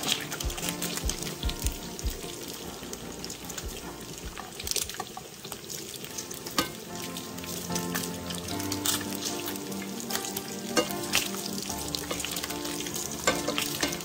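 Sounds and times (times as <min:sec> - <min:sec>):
bacon sizzling in a frying pan: 0:00.0 - 0:14.0.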